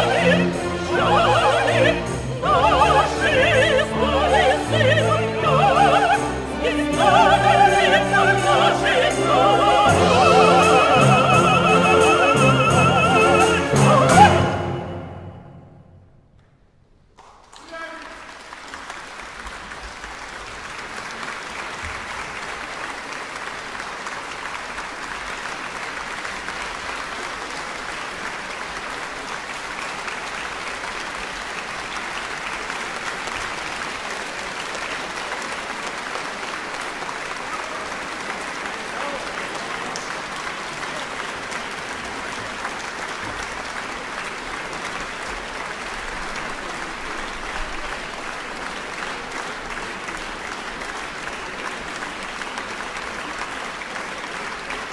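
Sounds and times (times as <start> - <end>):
audience applauding: 0.0 - 15.0, 17.2 - 54.9.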